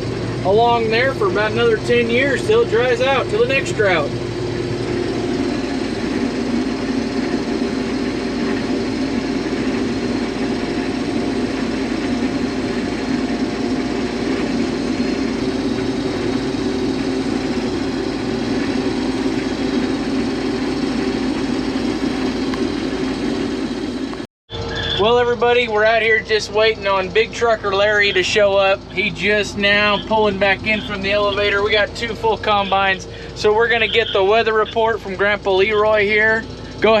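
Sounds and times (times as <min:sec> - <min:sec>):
combine harvester engine humming: 0:00.0 - 0:37.0.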